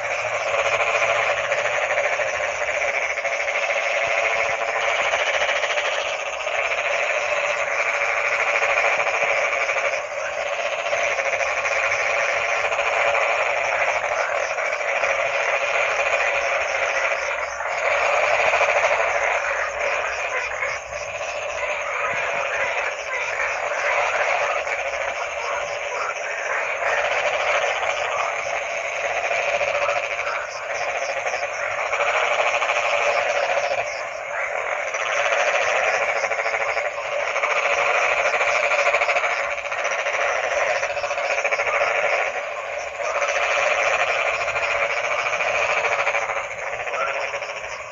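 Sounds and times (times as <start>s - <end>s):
chorus of frogs croaking: 0.0s - 47.9s.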